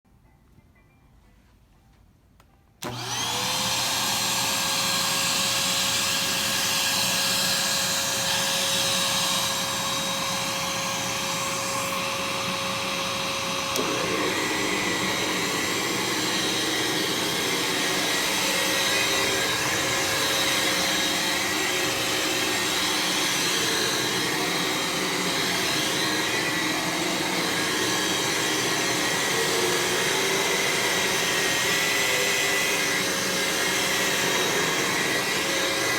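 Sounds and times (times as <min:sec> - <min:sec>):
upright vacuum cleaner running: 0:02.8 - 0:35.9.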